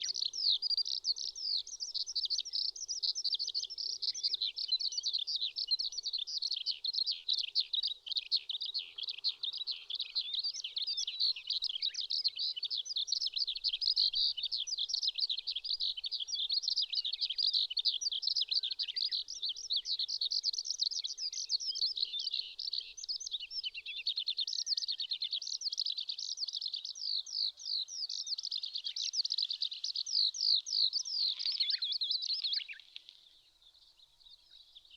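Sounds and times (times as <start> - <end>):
skylark singing: 0.0 - 34.9.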